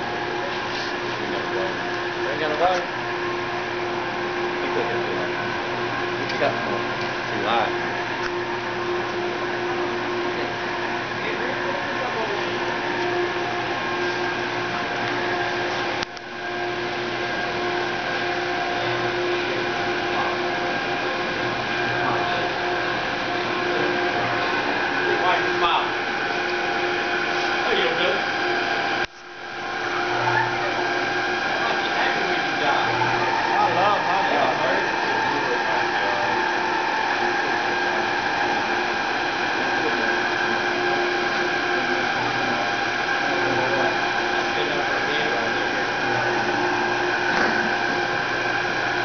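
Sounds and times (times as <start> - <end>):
roller machine humming: 0.0 - 49.0.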